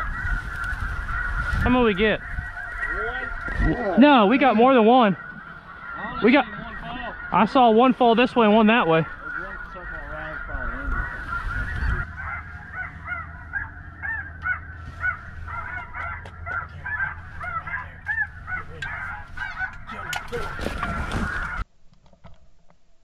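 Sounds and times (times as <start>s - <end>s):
steady low rumble: 0.0s - 21.6s
geese honking: 0.0s - 21.7s.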